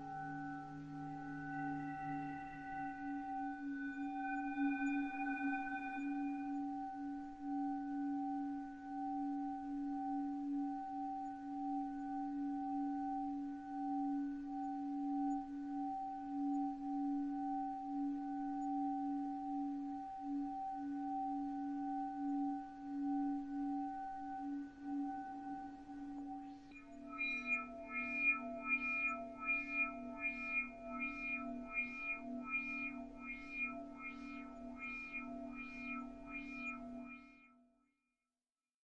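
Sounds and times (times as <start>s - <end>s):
sustained ringing drone: 0.0s - 37.4s.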